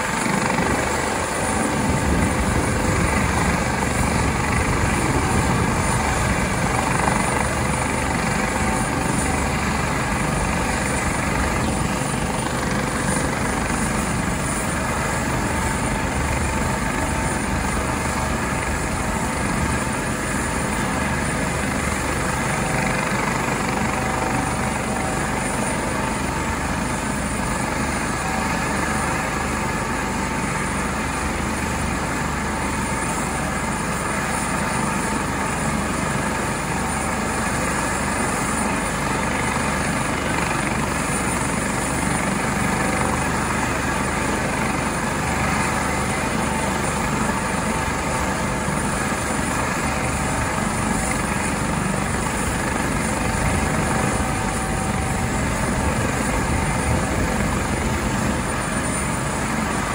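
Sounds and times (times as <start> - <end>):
helicopter turbine and rotor noise: 0.0 - 59.9.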